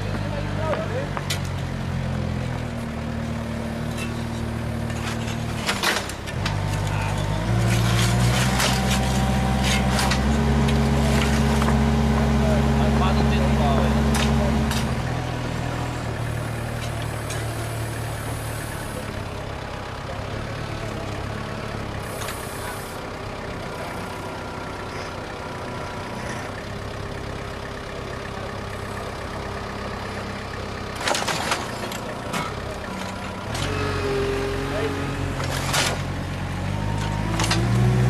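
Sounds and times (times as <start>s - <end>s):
diesel engine of machinery running: 0.0s - 38.0s
louder engine: 0.0s - 38.0s.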